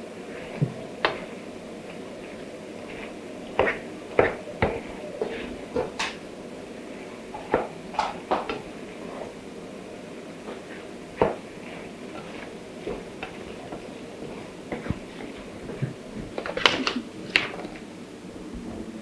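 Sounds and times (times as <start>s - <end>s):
wooden spatula stirring stew in pan: 0.1s - 16.6s.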